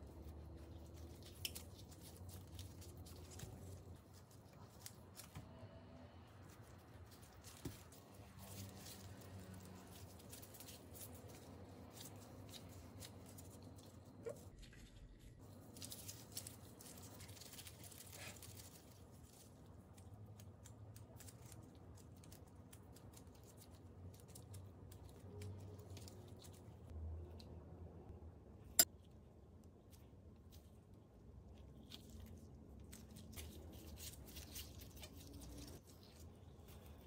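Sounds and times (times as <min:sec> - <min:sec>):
rustling gloves and plastic wrap: 0:00.0 - 0:26.9, 0:29.8 - 0:37.0
gloved hands kneading dough: 0:00.0 - 0:27.7, 0:28.8 - 0:37.0.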